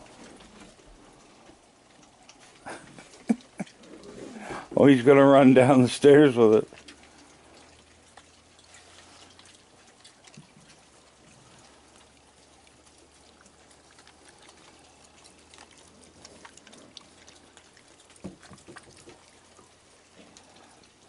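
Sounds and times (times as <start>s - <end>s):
rain dripping and trickling: 0.0s - 21.0s.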